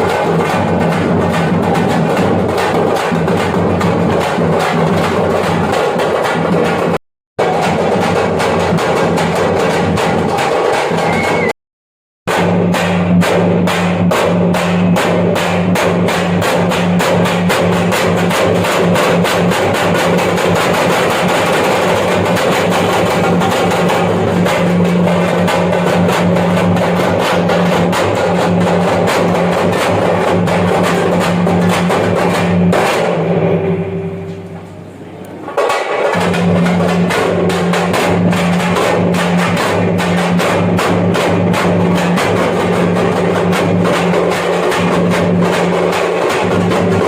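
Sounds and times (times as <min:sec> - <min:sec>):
frame drums played fast: 0:00.0 - 0:11.5, 0:12.3 - 0:33.5, 0:35.6 - 0:47.0.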